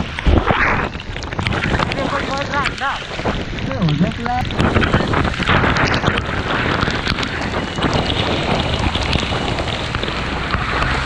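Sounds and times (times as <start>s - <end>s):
wind noise on microphone: 0.0s - 11.0s
motorcycle riding: 0.9s - 11.0s.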